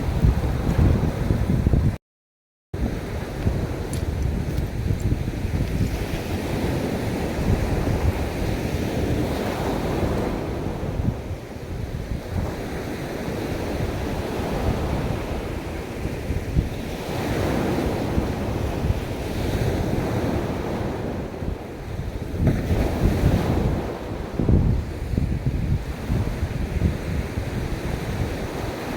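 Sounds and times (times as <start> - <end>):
wind buffeting microphone: 0.0 - 2.0, 2.8 - 28.9
sea waves washing onto beach: 2.8 - 28.9.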